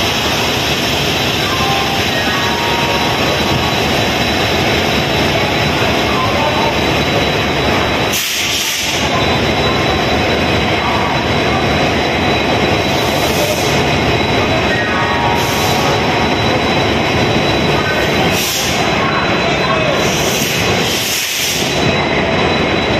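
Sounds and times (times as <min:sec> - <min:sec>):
diesel locomotive engine rumbling: 0:00.0 - 0:22.9.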